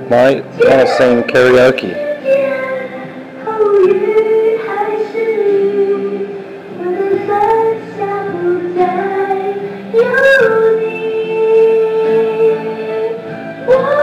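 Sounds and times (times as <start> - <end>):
backing track music: 0.0 - 14.0
woman singing karaoke: 0.6 - 14.0.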